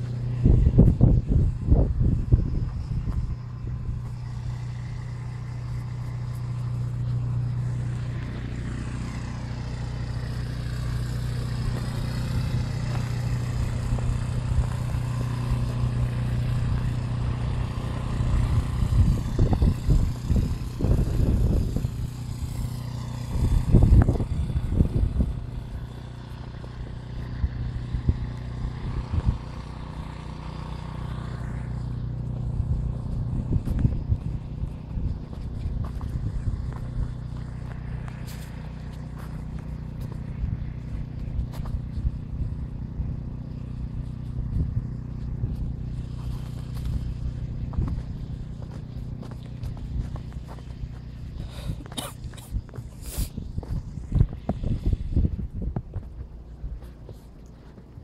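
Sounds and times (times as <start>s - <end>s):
low engine hum: 0.0s - 58.0s.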